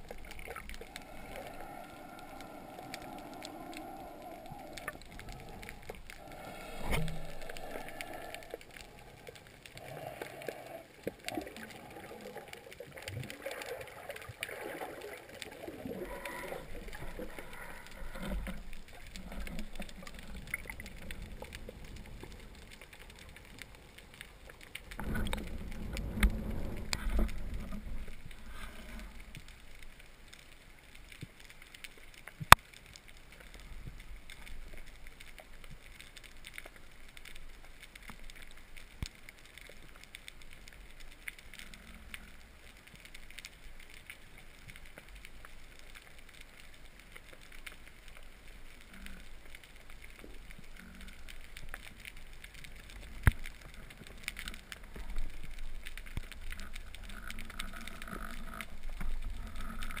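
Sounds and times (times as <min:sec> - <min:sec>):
faint underwater crackle: 0:00.0 - 1:00.0.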